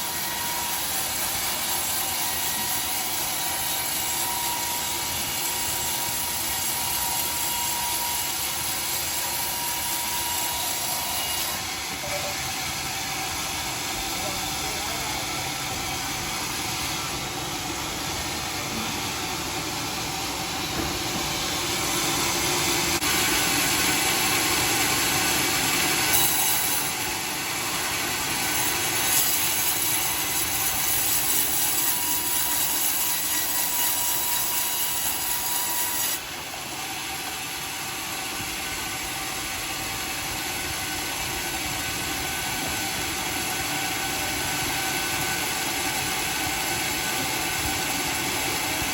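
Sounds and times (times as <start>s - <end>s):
sawmill sawing wood: 0.0s - 48.9s.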